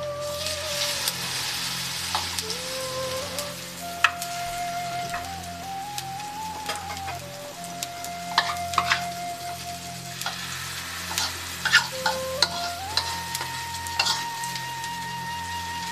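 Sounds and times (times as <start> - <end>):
hot oil sizzling and crackling: 0.0 - 15.9
slow melody of held notes: 0.0 - 15.9.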